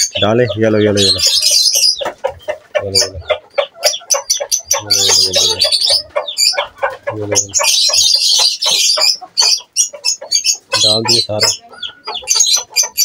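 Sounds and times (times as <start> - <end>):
chickens clucking: 0.0 - 13.0
chicks cheeping: 0.0 - 13.0.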